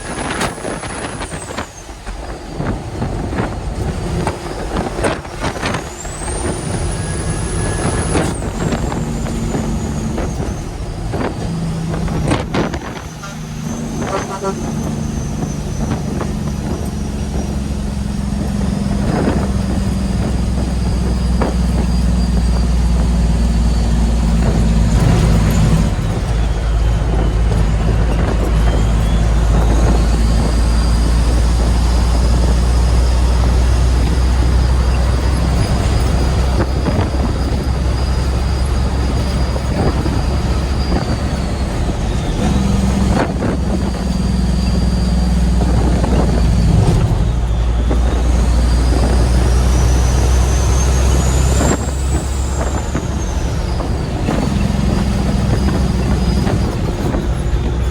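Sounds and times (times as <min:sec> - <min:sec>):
truck diesel engine running: 0:00.0 - 0:57.9.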